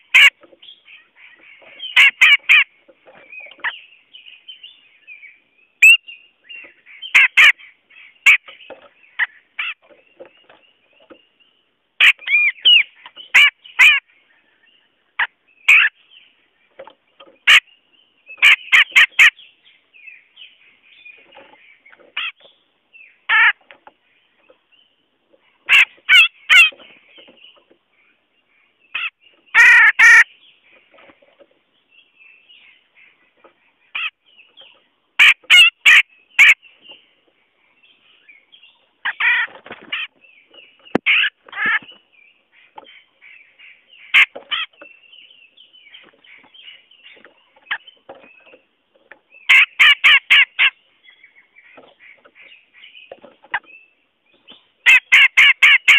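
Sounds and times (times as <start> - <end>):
bird harsh rasping calls: 0.0 - 11.2, 12.0 - 24.6, 25.3 - 31.1, 32.6 - 37.1, 38.0 - 55.9
faint bird twittering: 0.0 - 55.9.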